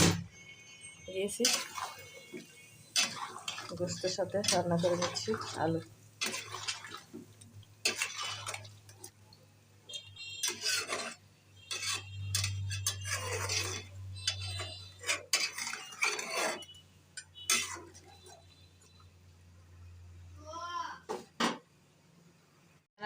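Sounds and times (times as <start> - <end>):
spoon stirring in a pot: 0.7 - 19.2.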